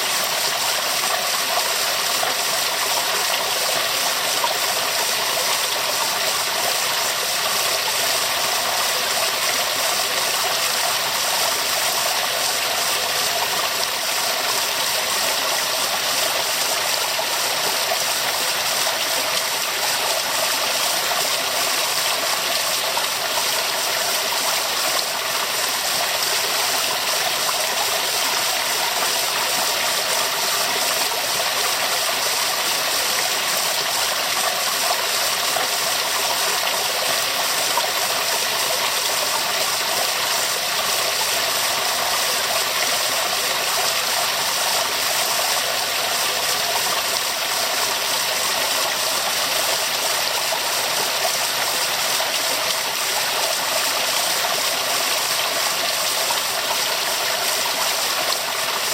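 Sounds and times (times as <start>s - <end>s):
waterfall rushing: 4.1s - 58.9s.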